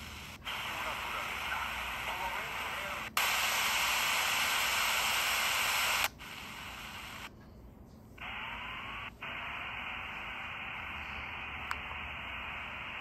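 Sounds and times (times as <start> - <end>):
shortwave radio static hiss: 0.0 - 7.4, 8.2 - 13.0.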